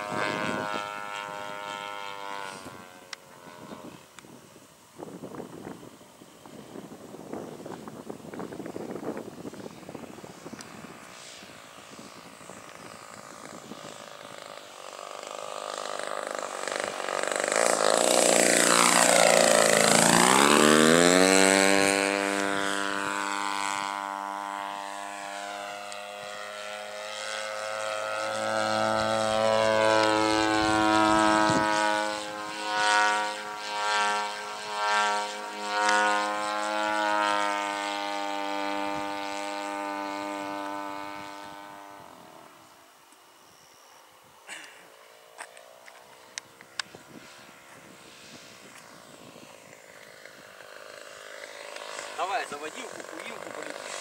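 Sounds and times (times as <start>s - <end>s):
model airplane engine droning: 0.0s - 54.0s.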